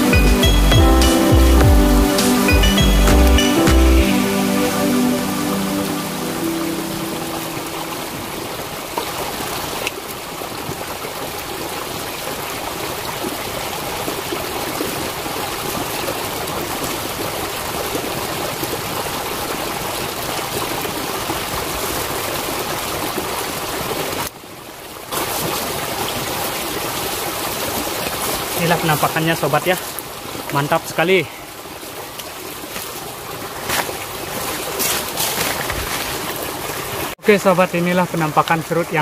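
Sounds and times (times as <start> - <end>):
flowing stream: 0.0 - 39.0.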